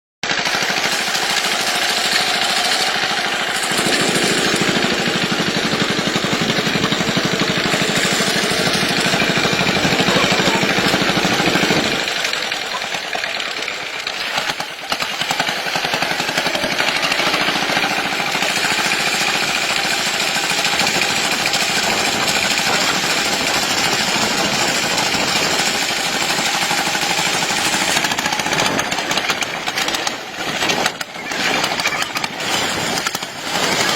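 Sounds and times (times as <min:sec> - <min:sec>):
pulsing machine engine: 0:00.2 - 0:33.9.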